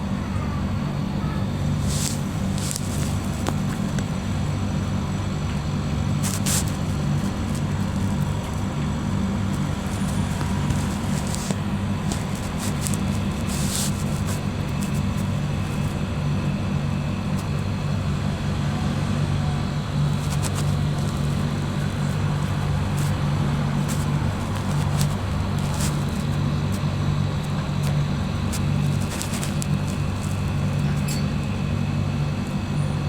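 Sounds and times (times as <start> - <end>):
refrigerator humming: 0.0 - 33.0.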